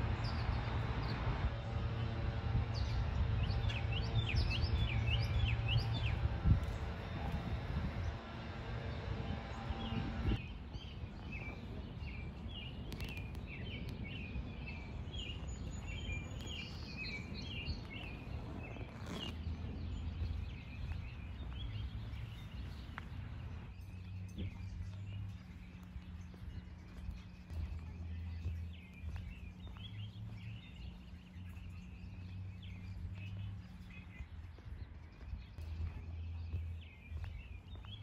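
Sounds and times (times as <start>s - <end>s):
low outdoor rumble: 0.0s - 38.0s.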